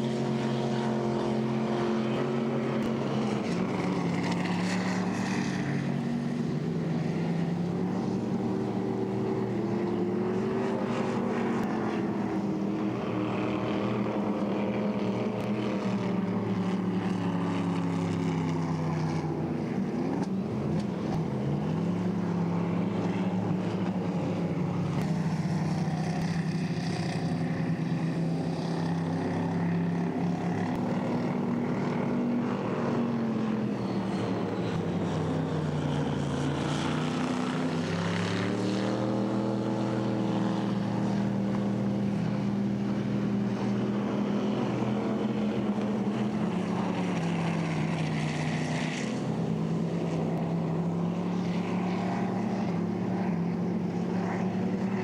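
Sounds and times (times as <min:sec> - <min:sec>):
race boat engine running: 0:00.0 - 0:55.0.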